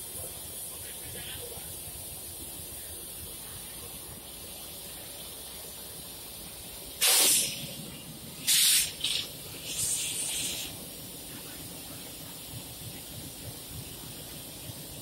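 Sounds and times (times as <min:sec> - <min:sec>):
compressed air hissing: 0:00.3 - 0:15.0.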